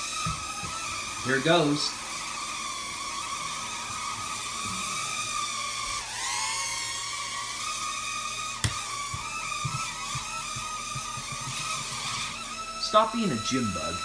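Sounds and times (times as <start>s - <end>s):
toy helicopter rotor motor whining: 0.0s - 14.0s.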